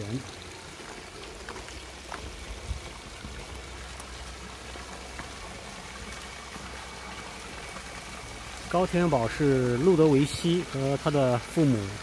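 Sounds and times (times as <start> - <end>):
fountain water splashing into basin: 0.0 - 12.0.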